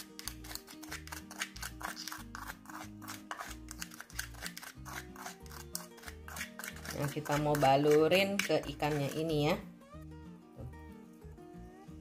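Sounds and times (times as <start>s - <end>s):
metal spoon scraping ceramic bowl: 0.0s - 9.6s.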